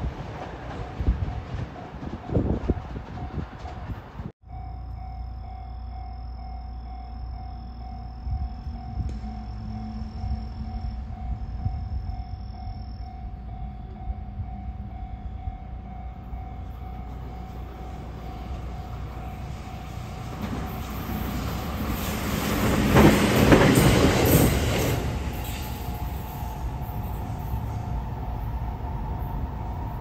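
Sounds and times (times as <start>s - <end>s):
electric train passing: 0.0s - 30.0s
level-crossing warning tone: 2.3s - 30.0s.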